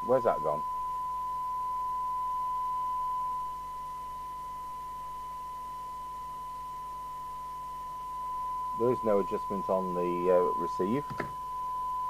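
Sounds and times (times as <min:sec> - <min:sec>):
faint hum and hiss: 0:00.0 - 0:12.0
steady test tone: 0:00.0 - 0:12.0.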